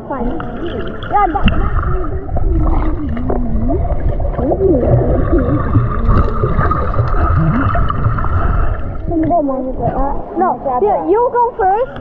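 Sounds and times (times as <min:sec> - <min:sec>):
underwater gurgling rumble: 0:00.0 - 0:11.1
muffled voices underwater: 0:00.0 - 0:12.0.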